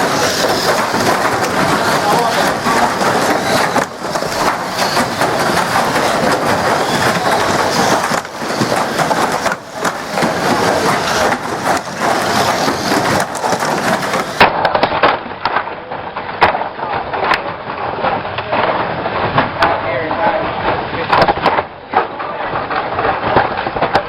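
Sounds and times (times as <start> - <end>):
model cars clattering and colliding: 0.0 - 24.0.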